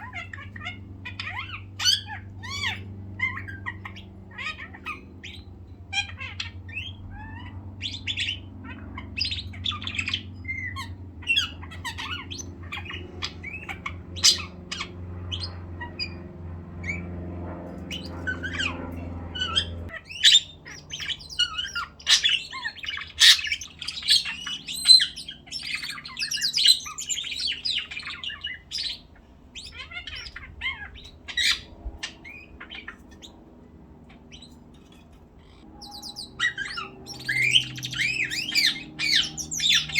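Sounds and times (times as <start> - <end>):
birds chirping and squawking: 0.0 - 39.9
low steady hum: 0.0 - 39.9.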